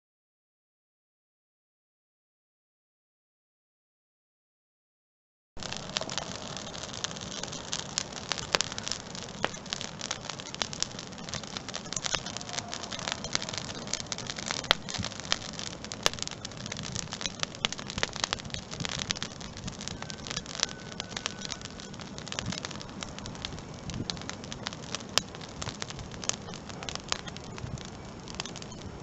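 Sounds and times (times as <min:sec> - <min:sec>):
wood fire crackling: 0:05.6 - 0:29.0.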